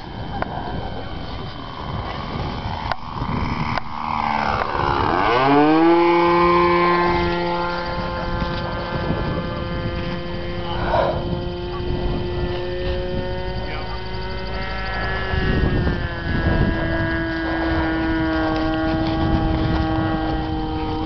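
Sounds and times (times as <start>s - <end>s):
propeller aircraft engine droning: 0.0s - 21.0s.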